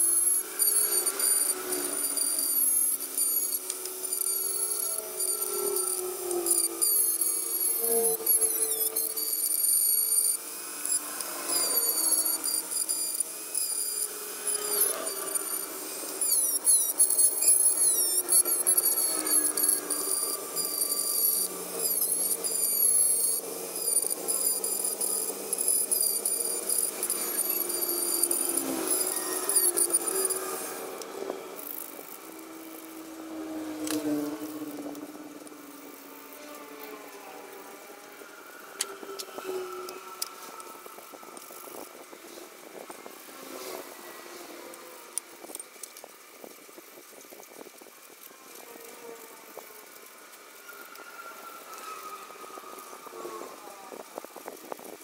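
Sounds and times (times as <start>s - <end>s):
power tool squealing on metal: 0.0s - 55.0s.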